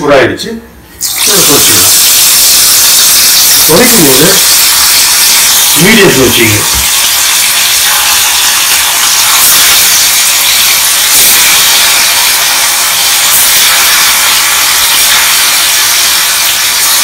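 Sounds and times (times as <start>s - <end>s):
fish deep-frying in oil: 1.0s - 17.0s.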